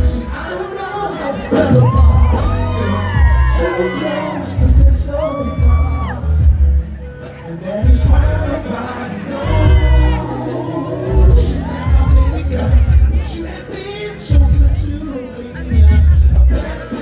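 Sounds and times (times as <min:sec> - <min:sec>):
crowd singing and whooping: 0:00.0 - 0:17.0
loud music with heavy bass: 0:00.0 - 0:17.0.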